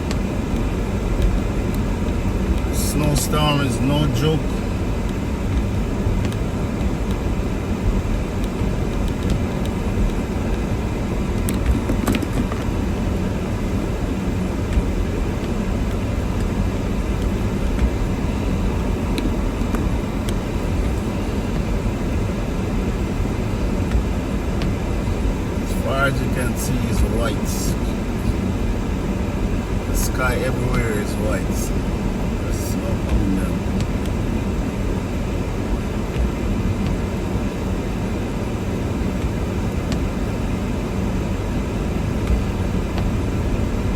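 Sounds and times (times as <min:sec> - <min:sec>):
car driving on snowy road: 0:00.0 - 0:43.9.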